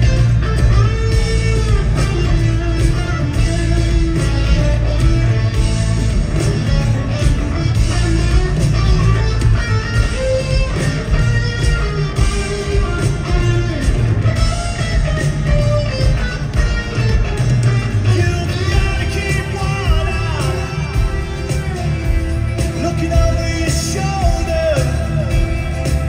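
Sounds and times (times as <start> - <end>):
electric guitar lead bending notes: 0.0 - 26.0
rock band playing: 0.0 - 26.0.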